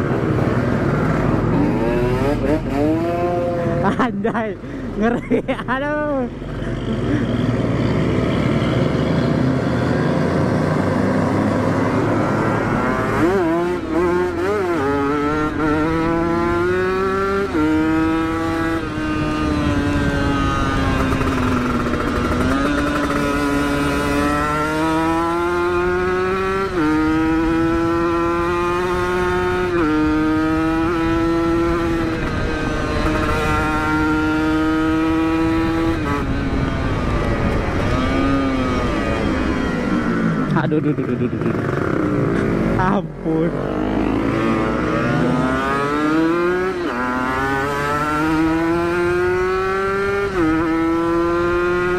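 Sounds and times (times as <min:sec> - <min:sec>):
motorcycle engine revving: 0:00.0 - 0:04.0, 0:05.9 - 0:51.9
rushing wind: 0:00.0 - 0:51.9.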